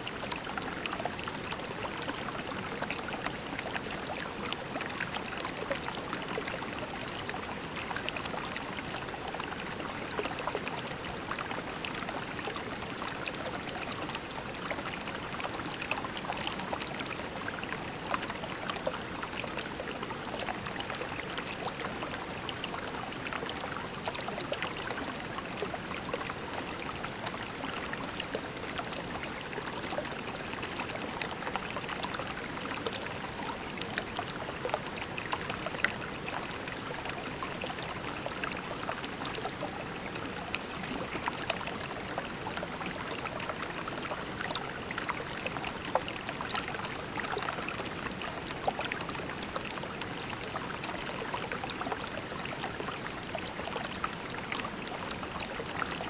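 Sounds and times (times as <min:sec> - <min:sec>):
creek water flowing over pebbles: 0:00.0 - 0:56.0.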